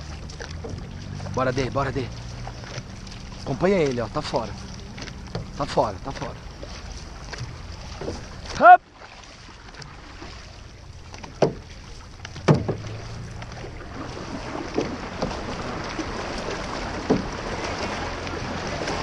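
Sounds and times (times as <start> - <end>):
paddles splashing into water: 0.0 - 19.0
rushing water: 0.0 - 19.0
wind: 0.0 - 19.0.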